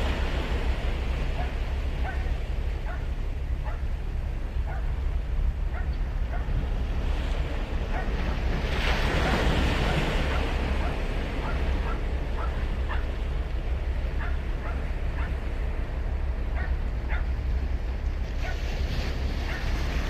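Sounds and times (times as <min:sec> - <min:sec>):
ocean surf breaking: 0:00.0 - 0:20.0
wind rumble on microphone: 0:00.0 - 0:20.0.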